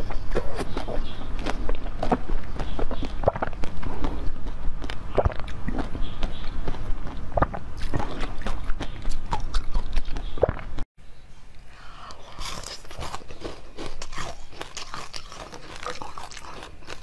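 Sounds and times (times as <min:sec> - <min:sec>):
person chewing food: 0:00.0 - 0:10.9, 0:11.5 - 0:17.0.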